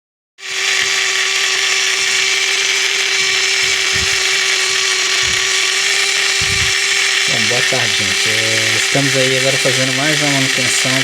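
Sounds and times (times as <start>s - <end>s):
drain pump buzzing whine: 0.4s - 11.0s.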